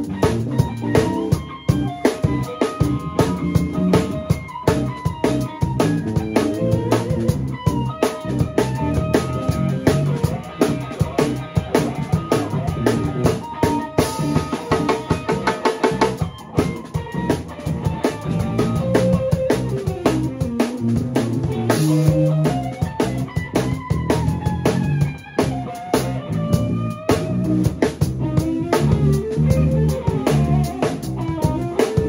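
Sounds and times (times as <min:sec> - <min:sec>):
drum kit beat: 0:00.0 - 0:32.0
funk band playing: 0:00.0 - 0:32.0.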